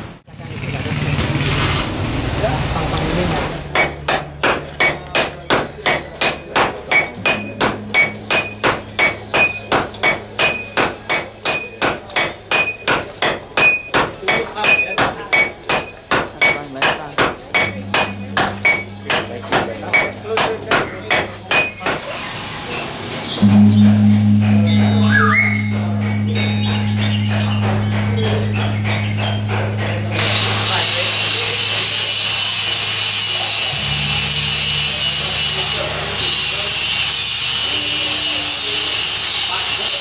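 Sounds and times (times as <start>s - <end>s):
hammers striking metal on anvil: 3.7s - 22.2s, 23.4s - 40.0s.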